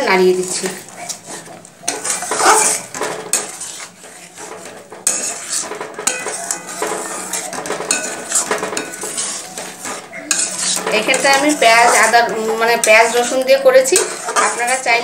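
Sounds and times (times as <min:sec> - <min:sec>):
spatula scraping a pan: 0:00.0 - 0:15.0.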